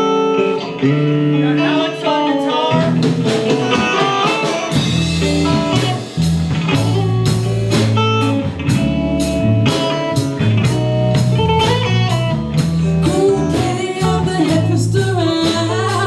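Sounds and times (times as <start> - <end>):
bass: 0.0 - 16.0
electric guitar: 0.0 - 16.0
drum kit beat: 2.4 - 16.0.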